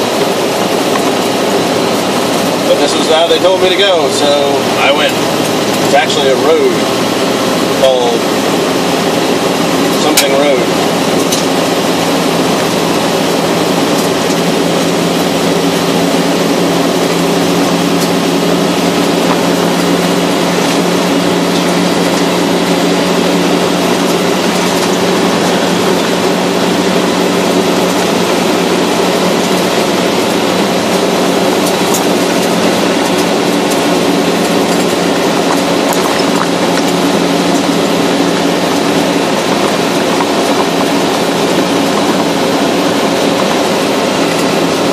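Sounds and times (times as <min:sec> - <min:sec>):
car engine hum: 0:00.0 - 0:44.9
tyres on loose gravel: 0:00.0 - 0:44.9.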